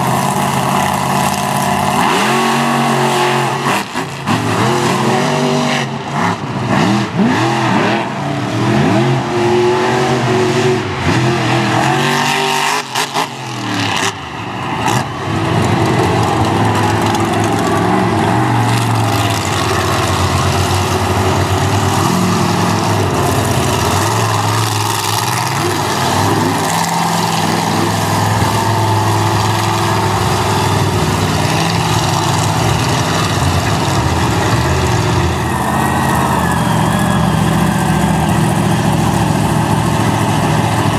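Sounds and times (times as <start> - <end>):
truck engine revving hard: 0.0 - 40.9.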